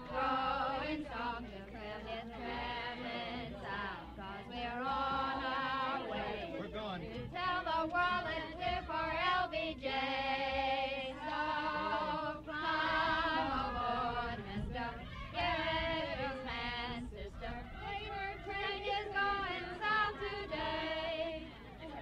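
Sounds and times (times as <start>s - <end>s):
group singing with vibrato: 0.0s - 22.0s.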